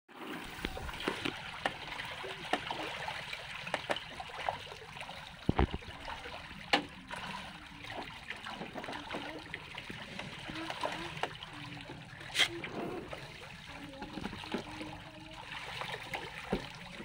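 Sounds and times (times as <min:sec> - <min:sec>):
churning water patter: 0:00.1 - 0:17.0.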